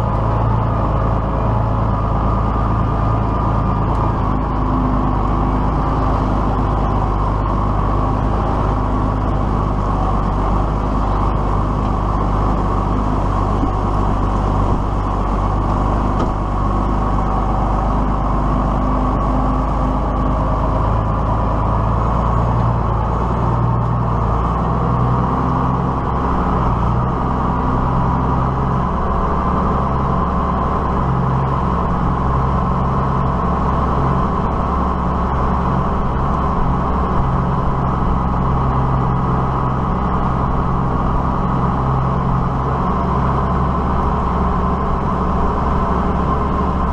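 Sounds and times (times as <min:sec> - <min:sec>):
diesel tractor engine running: 0:00.0 - 0:46.9.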